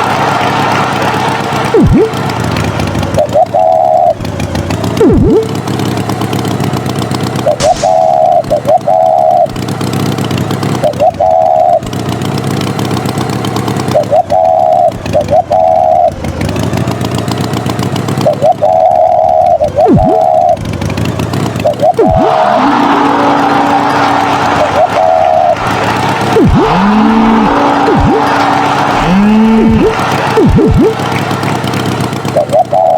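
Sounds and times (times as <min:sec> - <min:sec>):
cartoon tractor engine: 0:00.0 - 0:32.9.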